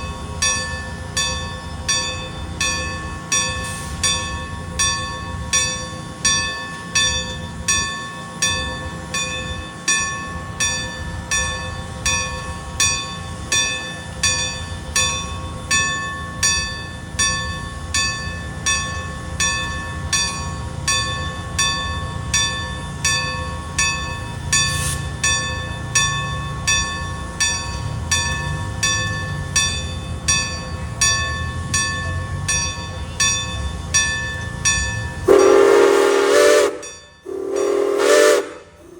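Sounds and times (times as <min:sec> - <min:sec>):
railroad crossing bell ringing: 0:00.0 - 0:38.9
train rumbling: 0:00.0 - 0:38.9.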